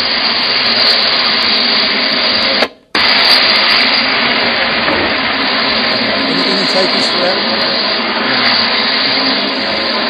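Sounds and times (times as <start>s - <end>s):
loud rushing noise: 0.0s - 10.0s.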